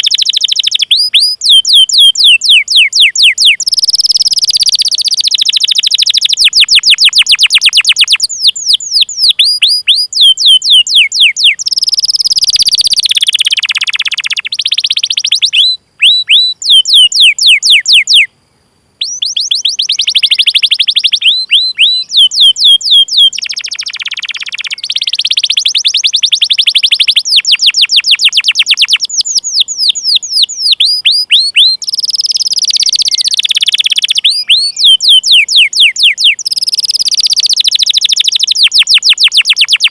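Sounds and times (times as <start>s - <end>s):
canary chirping and trilling: 0.0s - 18.3s, 19.0s - 39.9s.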